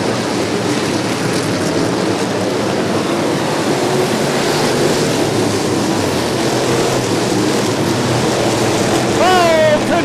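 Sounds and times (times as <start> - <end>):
race car engines at speed: 0.0 - 10.0.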